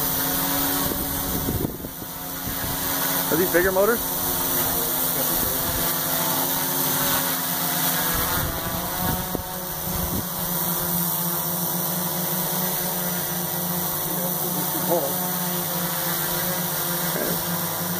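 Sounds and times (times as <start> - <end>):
drone propellers humming: 0.0 - 17.9.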